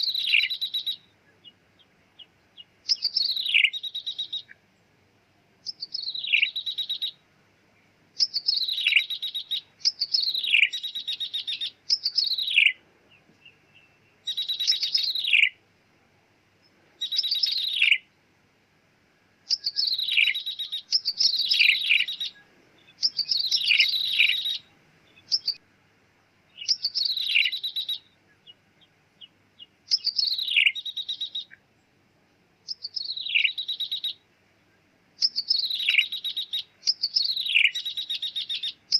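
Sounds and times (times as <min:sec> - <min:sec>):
bird calling with buzzy trills: 0:00.0 - 0:04.9, 0:05.6 - 0:07.2, 0:08.2 - 0:15.6, 0:16.6 - 0:18.2, 0:19.4 - 0:25.6, 0:26.5 - 0:31.8, 0:32.6 - 0:34.2, 0:35.2 - 0:38.9.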